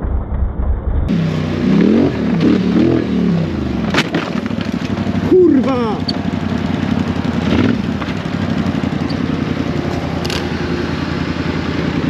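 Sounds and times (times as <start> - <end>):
quad engine running: 1.1 - 12.0.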